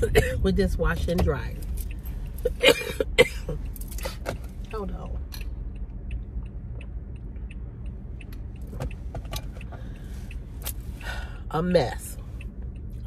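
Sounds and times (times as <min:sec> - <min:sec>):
light regular ticking: 0:00.0 - 0:13.0
road and engine rumble: 0:00.0 - 0:13.0.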